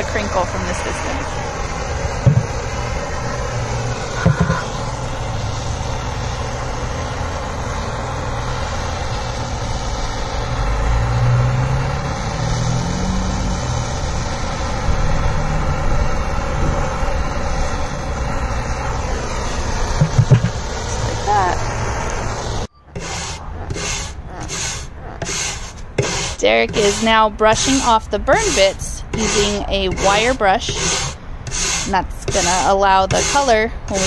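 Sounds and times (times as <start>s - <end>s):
propane torch hissing: 0.0s - 34.0s.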